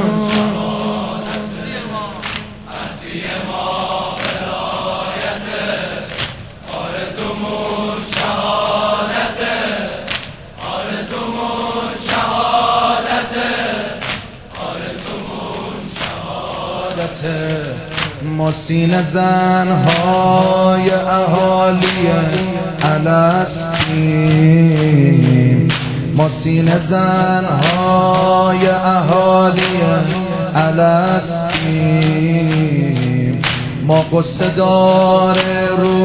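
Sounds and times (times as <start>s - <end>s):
men chanting in chorus: 0.0s - 36.0s
rhythmic chest-beating: 0.0s - 36.0s.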